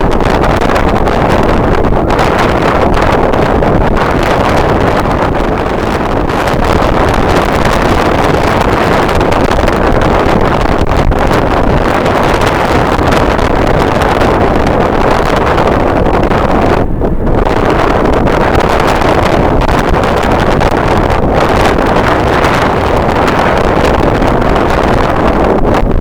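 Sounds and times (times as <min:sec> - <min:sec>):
strong wind on microphone: 0:00.0 - 0:26.0.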